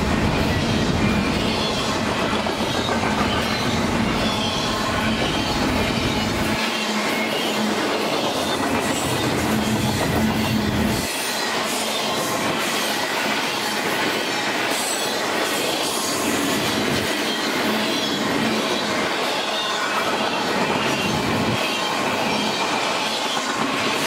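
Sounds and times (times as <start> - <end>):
train wheels rushing on rails: 0.0 - 24.0.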